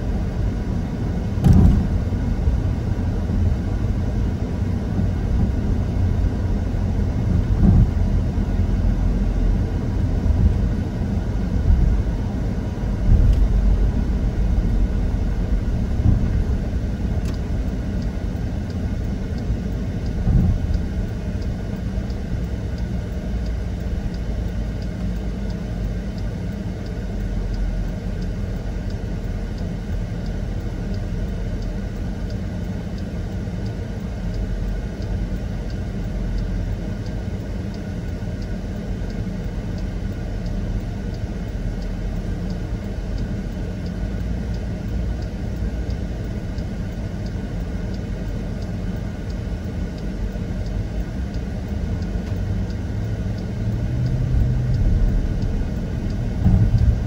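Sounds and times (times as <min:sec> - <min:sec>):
low vehicle rumble: 0:00.0 - 0:57.0
faint ticking: 0:08.2 - 0:57.0.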